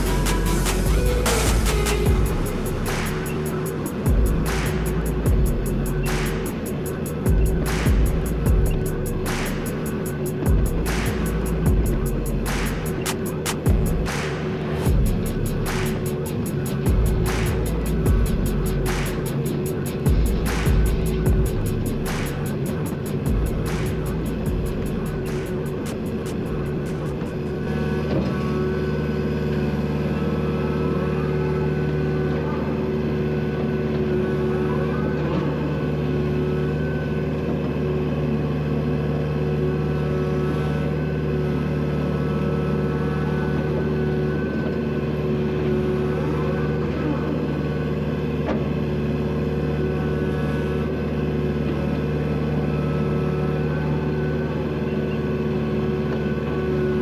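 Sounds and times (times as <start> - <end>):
vehicle engine running steadily: 0.0 - 14.2, 14.9 - 57.0.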